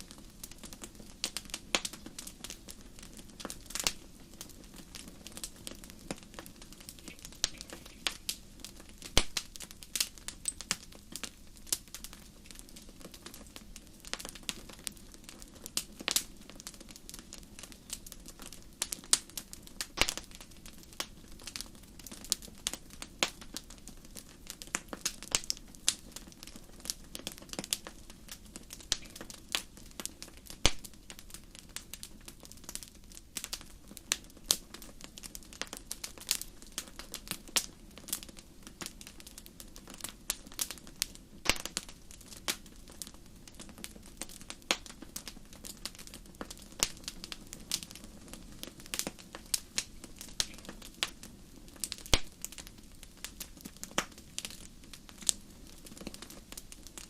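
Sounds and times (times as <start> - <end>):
burning wood popping: 0.0 - 57.0
flames hushing: 0.0 - 57.0.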